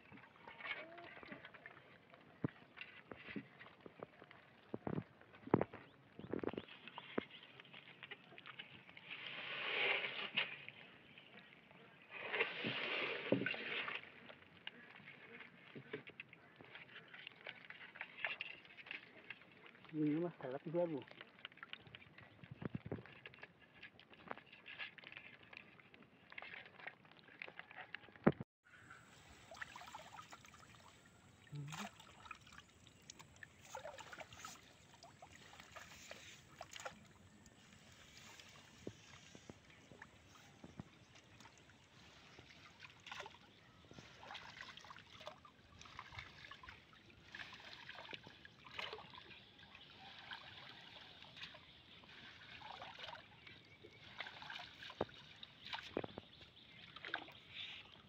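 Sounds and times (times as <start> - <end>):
small splashes and trickles: 0.0 - 28.0, 28.8 - 58.0
pond water sloshing: 0.0 - 58.0.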